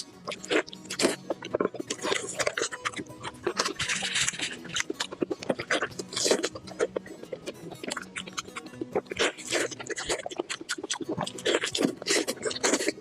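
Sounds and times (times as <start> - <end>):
chewing fatty meat: 0.0 - 13.0.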